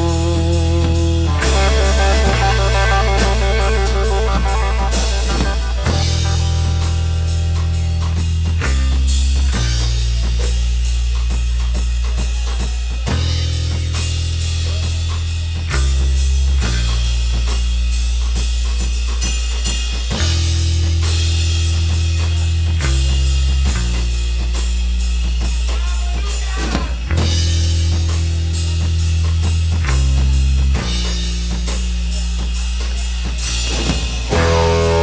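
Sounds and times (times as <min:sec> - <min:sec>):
bass line of low notes: 0:00.0 - 0:19.0, 0:20.1 - 0:25.8, 0:27.0 - 0:33.5, 0:34.2 - 0:35.0
drum kit steady beat: 0:00.0 - 0:35.0.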